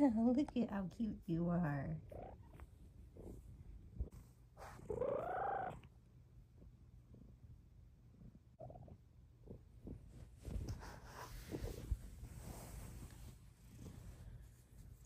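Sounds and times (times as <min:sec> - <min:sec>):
kitten purring: 0:01.9 - 0:05.9, 0:06.6 - 0:15.0.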